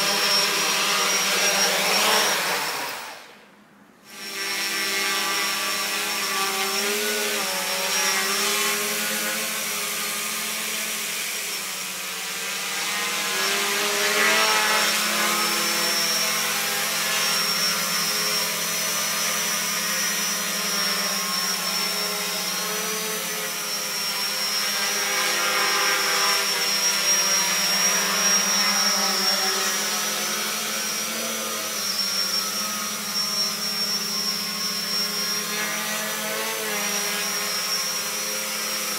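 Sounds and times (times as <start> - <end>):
quadcopter motors humming: 0.0 - 3.4, 4.0 - 38.9.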